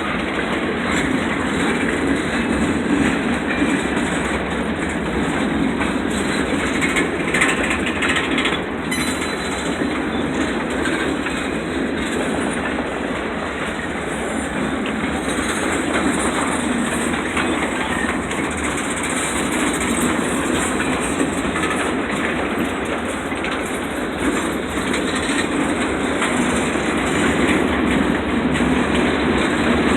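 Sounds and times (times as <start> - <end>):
freight train wheels rumbling: 0.0 - 29.9.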